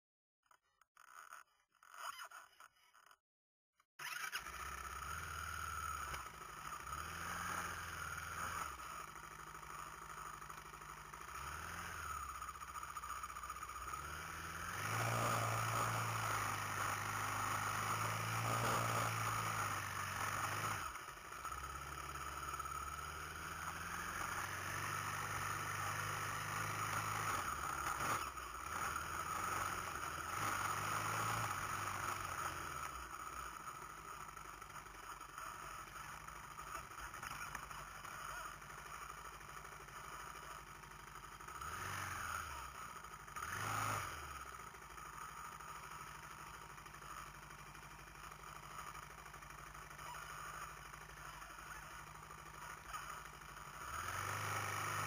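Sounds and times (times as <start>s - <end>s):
atv engine running: 4.0s - 55.0s.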